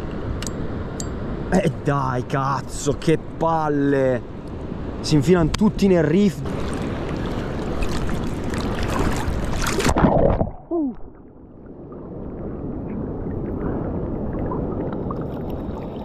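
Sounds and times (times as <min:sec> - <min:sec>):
wind and water on microphone: 0:00.0 - 0:16.0.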